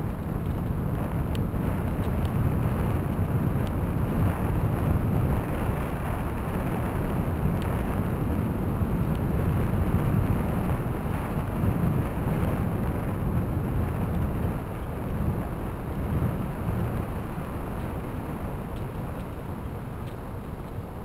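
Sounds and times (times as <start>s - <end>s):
bike tyres rolling on asphalt: 0.0s - 21.0s
wind rush on microphone: 0.0s - 21.0s.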